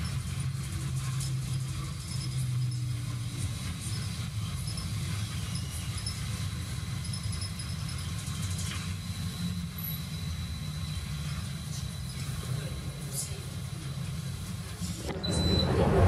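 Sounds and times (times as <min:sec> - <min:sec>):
faint high whine: 0:00.0 - 0:16.0
vehicle rumble inside cabin: 0:00.0 - 0:16.0.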